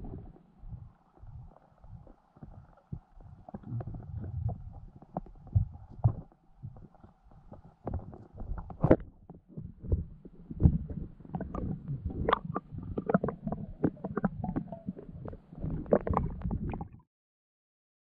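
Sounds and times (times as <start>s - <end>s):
underwater knocks and clicks: 0.0s - 17.0s
underwater low rumble: 0.0s - 17.0s.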